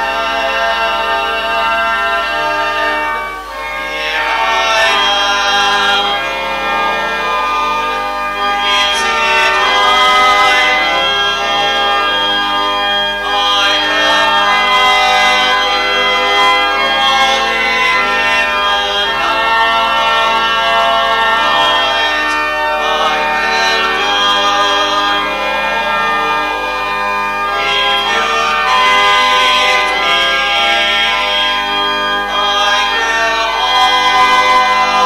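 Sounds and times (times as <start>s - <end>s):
organ chords: 0.0s - 35.0s
people singing: 0.0s - 35.0s.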